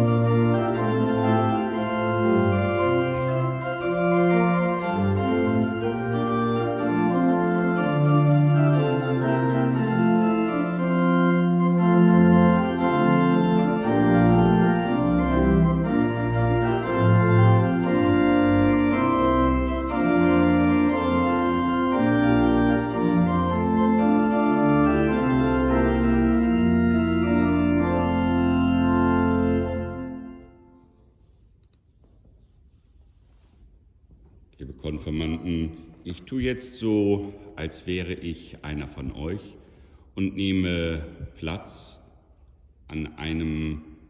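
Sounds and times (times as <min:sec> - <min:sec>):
pipe organ playing hymn: 0:00.0 - 0:31.4, 0:34.6 - 0:42.0, 0:42.9 - 0:44.0.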